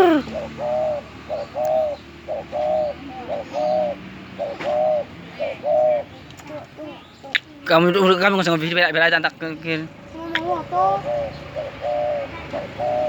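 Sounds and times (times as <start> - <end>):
dove cooing: 0.0 - 8.7, 9.6 - 13.0.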